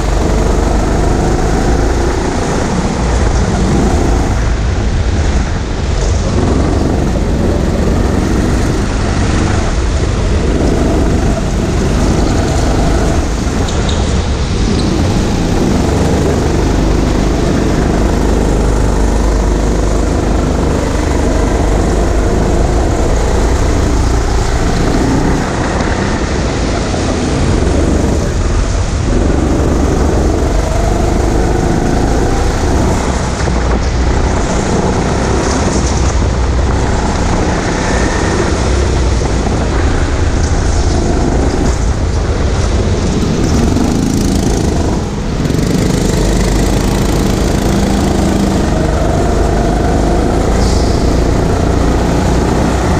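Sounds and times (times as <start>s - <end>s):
go-kart engine running: 0.0s - 52.9s.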